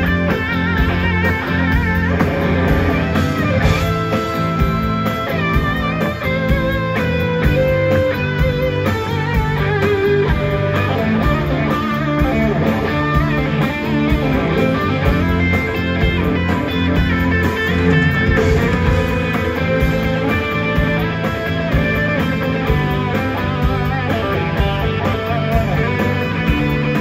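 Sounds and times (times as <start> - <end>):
blues-rock band playing: 0.0 - 27.0
electric guitar held notes: 0.0 - 27.0.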